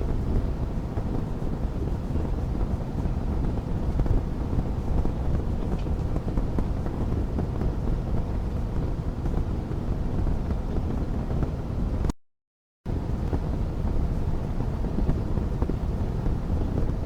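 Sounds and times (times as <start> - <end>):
low rumble of flames: 0.0 - 12.1, 12.9 - 17.0.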